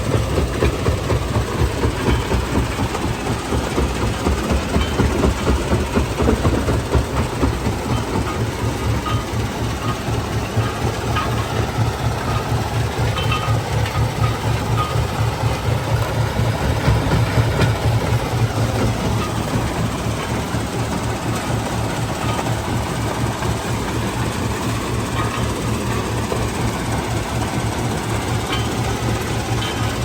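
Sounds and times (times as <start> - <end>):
stone crushing machinery rumbling: 0.0 - 30.0.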